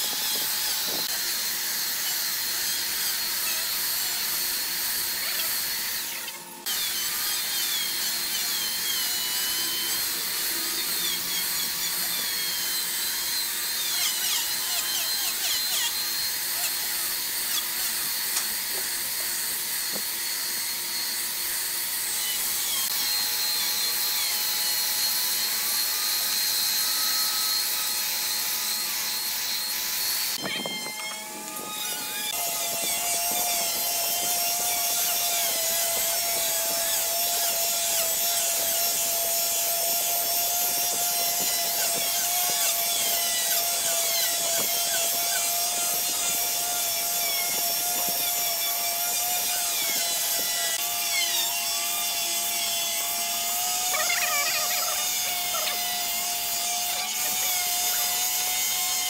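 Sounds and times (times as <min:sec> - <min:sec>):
belt sander on wood: 0:00.0 - 0:59.0.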